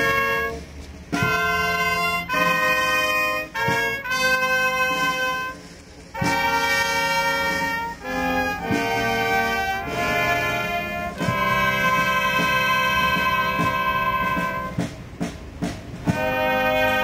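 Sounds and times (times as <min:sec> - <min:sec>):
slow trumpet-led brass music: 0:00.0 - 0:17.0.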